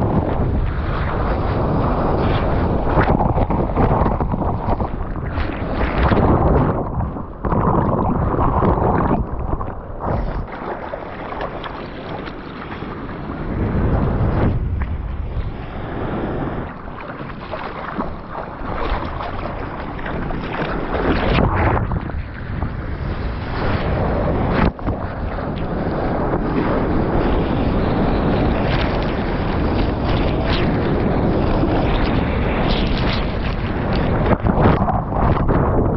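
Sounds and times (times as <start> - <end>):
churning whitewater splashing: 0.0 - 35.9.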